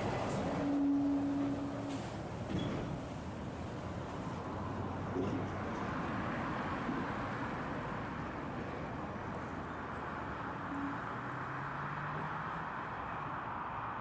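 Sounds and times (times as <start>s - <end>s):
road traffic and tyre noise: 0.0s - 14.0s.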